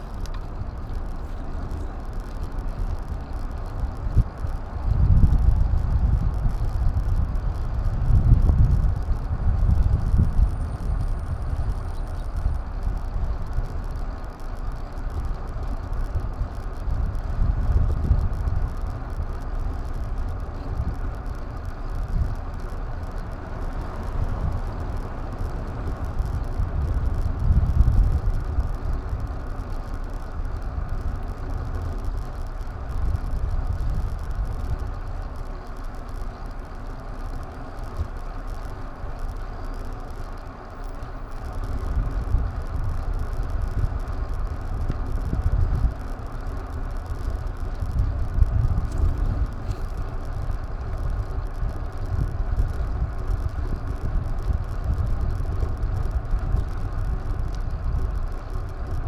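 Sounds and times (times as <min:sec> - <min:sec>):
wind buffeting microphone: 0:00.0 - 0:14.0, 0:15.0 - 0:36.8, 0:40.9 - 0:59.0
road noise: 0:00.0 - 0:59.0.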